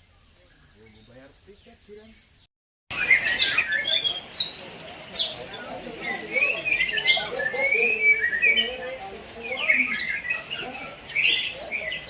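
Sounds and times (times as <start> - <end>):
songbirds singing and chirping: 0.0 - 12.0.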